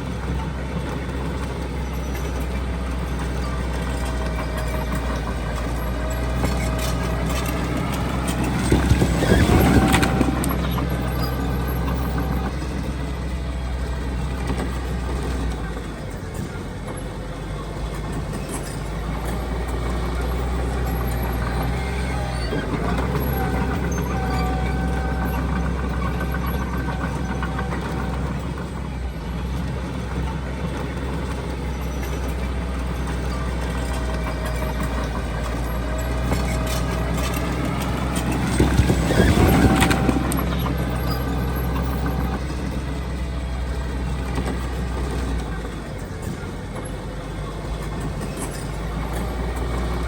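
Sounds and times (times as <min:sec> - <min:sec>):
diesel earthmoving machinery running: 0:00.0 - 0:50.0.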